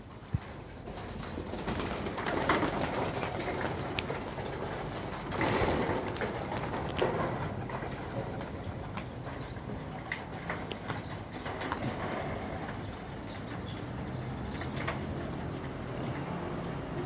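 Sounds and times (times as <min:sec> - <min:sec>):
pigeons cooing: 0:00.4 - 0:17.0.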